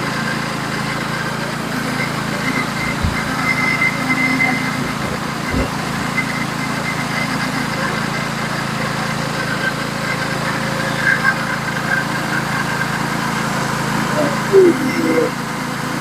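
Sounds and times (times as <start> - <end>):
band sawmill cutting log: 0.0 - 16.0.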